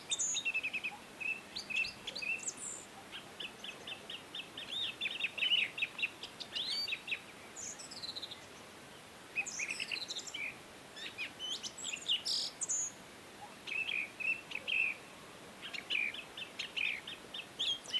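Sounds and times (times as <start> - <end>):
faint background hiss: 0.0 - 17.9
small birds chirping: 0.0 - 17.9.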